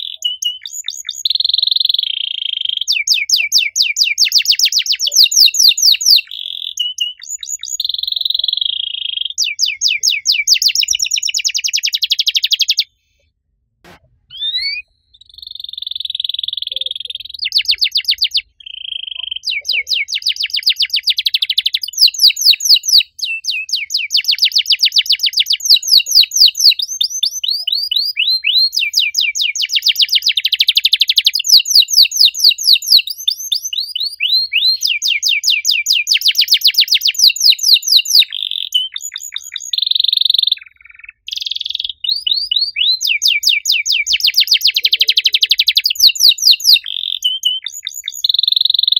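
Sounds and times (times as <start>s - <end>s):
canary singing: 0.0s - 12.9s, 13.9s - 48.9s.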